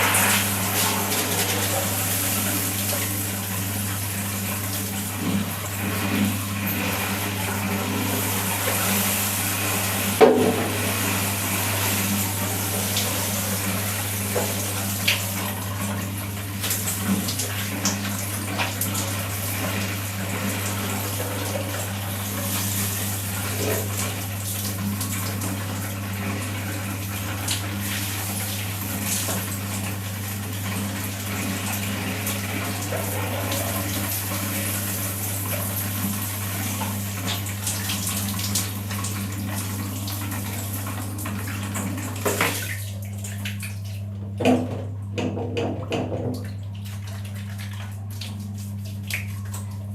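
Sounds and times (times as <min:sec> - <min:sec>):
water running: 0:00.0 - 0:49.9
water splashes and drips: 0:00.0 - 0:49.9.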